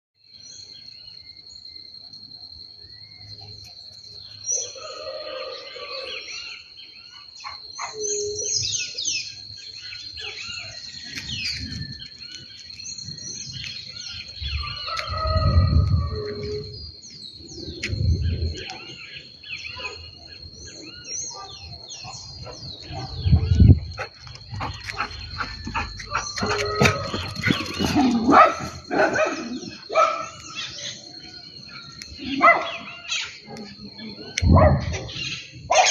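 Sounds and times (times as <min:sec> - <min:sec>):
birds chirping and singing: 0:02.8 - 0:35.9.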